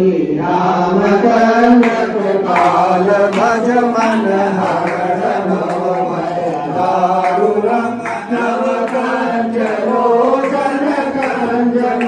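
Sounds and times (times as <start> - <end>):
voices chanting a hymn: 0.0 - 12.0.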